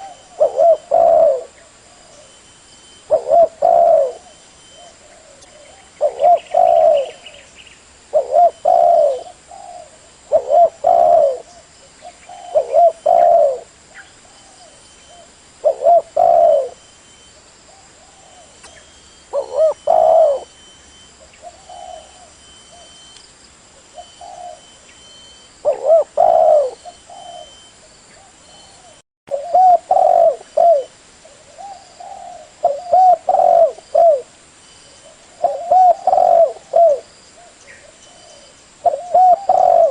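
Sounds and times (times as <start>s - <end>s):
dove cooing: 0.0s - 2.4s, 3.0s - 7.5s, 8.1s - 16.9s, 17.7s - 23.1s, 23.8s - 34.3s, 35.0s - 39.9s.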